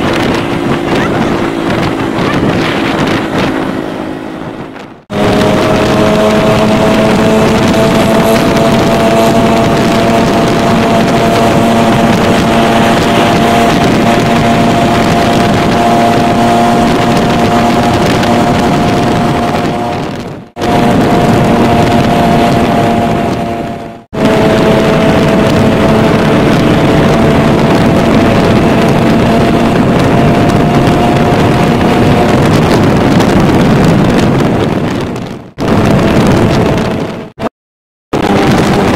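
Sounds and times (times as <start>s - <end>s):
motorcycle engine running: 0.0s - 37.5s, 38.1s - 38.9s
wind noise on microphone: 0.0s - 37.5s, 38.1s - 38.9s.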